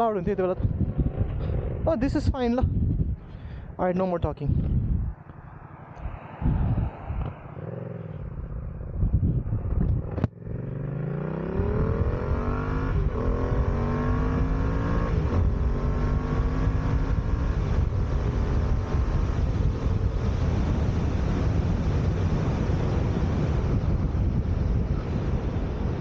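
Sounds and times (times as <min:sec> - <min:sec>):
motorcycle engine accelerating: 0:00.6 - 0:03.2, 0:04.7 - 0:26.0.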